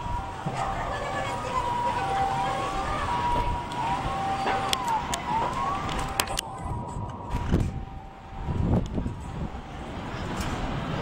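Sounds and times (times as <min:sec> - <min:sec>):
two-tone siren: 0:00.0 - 0:09.8
wailing siren: 0:00.0 - 0:10.1.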